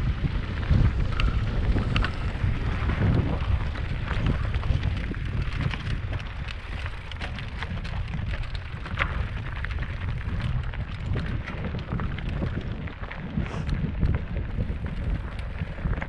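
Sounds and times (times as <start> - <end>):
crackles and clicks: 0.0 - 16.0
wind buffeting microphone: 0.0 - 16.0.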